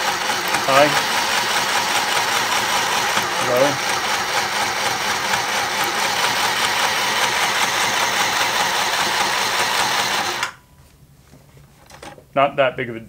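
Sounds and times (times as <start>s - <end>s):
sewing machine buzzing: 0.0s - 10.6s.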